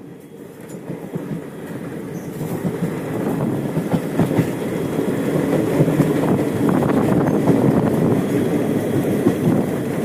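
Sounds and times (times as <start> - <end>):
train rumbling on rails: 0.0 - 10.0.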